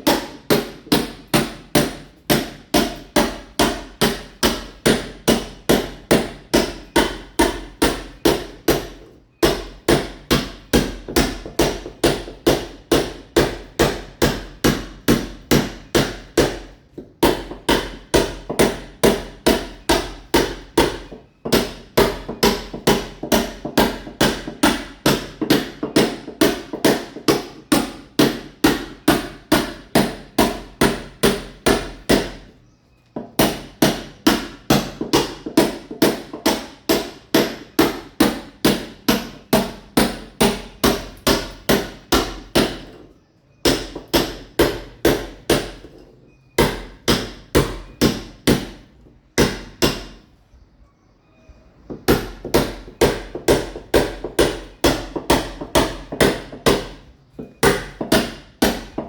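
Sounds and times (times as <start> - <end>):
hammer chipping masonry: 0.0 - 50.3, 51.8 - 59.0.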